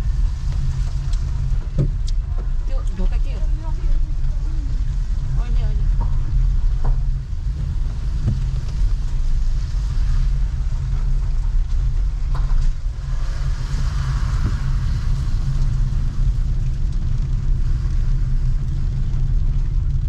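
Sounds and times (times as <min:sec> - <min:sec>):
heavy rain on street: 0:00.0 - 0:20.0
low rumble: 0:00.0 - 0:20.0.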